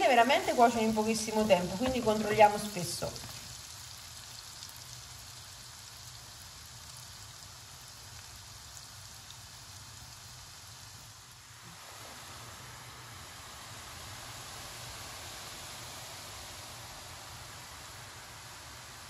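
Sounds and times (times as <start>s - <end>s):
dough sizzling in hot oil: 0.0s - 19.0s.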